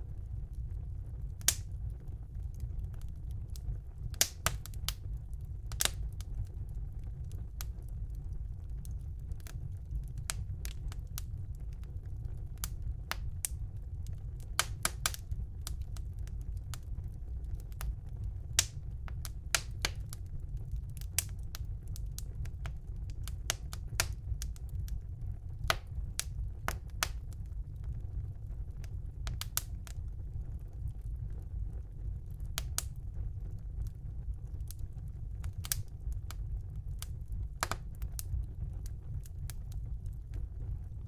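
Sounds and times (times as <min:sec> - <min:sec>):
low rumble of flames: 0:00.0 - 0:41.0
wood fire crackling and popping: 0:00.0 - 0:41.0.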